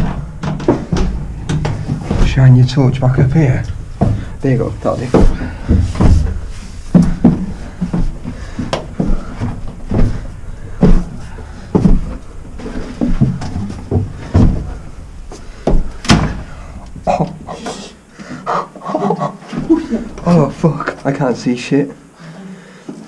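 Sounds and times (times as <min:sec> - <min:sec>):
heavy footsteps on stone stairs: 0:00.0 - 0:18.5.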